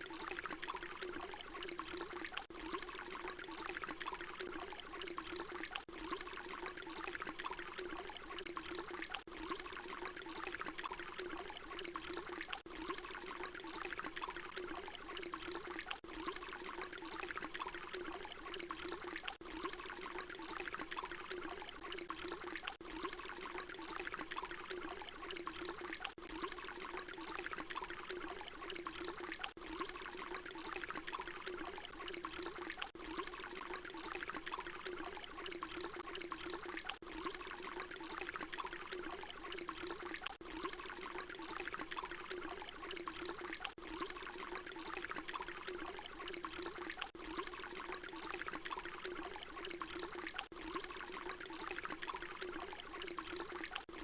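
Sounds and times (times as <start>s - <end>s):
water pouring and splashing: 0.0s - 54.0s.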